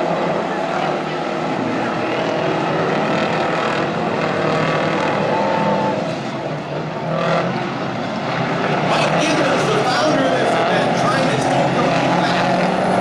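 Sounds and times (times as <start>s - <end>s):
racing truck engines: 0.0s - 13.0s.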